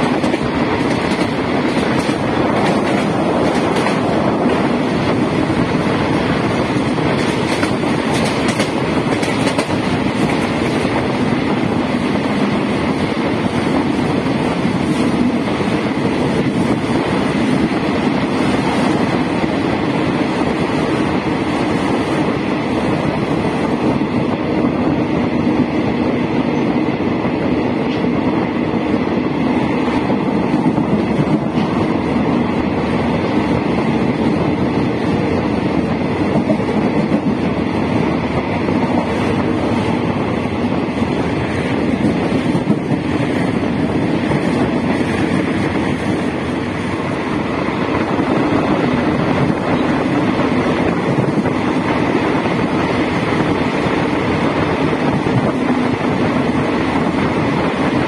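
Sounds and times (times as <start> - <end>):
rushing air: 0.0 - 58.0
train wheels rumbling on rails: 0.0 - 58.0.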